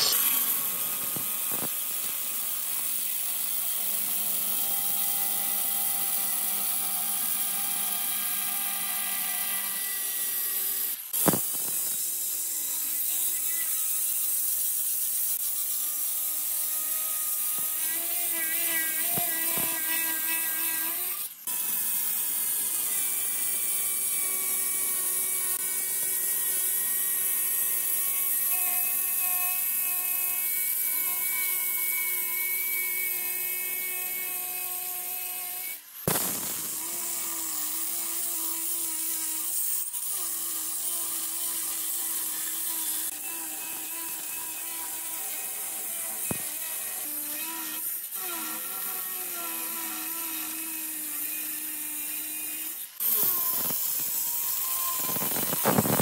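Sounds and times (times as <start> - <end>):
stone cutter grinding whine: 0.0 - 56.0.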